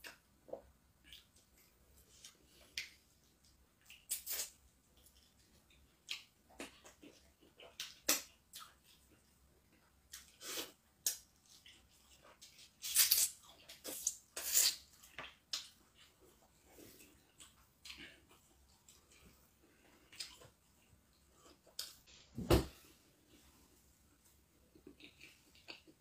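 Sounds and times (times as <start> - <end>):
mouth chewing and lip smacking: 1.0 - 22.0, 24.7 - 26.0.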